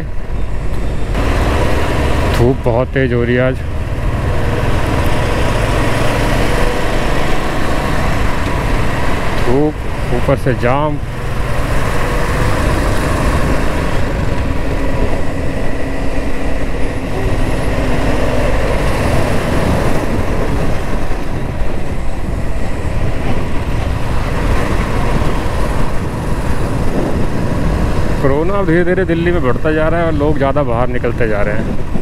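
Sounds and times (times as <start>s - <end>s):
other vehicle engines: 0.0s - 32.0s
wind and road noise: 0.0s - 32.0s
motorcycle engine running: 3.5s - 30.2s.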